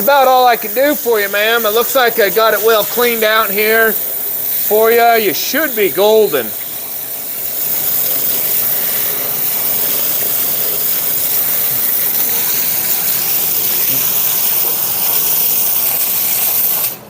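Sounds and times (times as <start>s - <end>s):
water spraying from hose nozzle: 0.0s - 17.0s.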